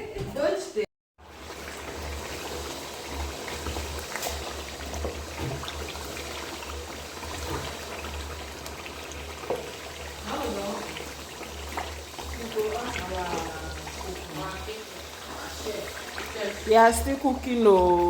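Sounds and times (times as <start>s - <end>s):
pot bubbling: 1.2s - 18.0s.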